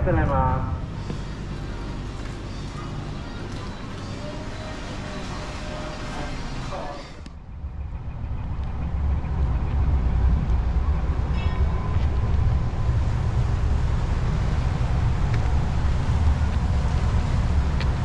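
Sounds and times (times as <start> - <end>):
ship engines rumbling: 0.0 - 18.0.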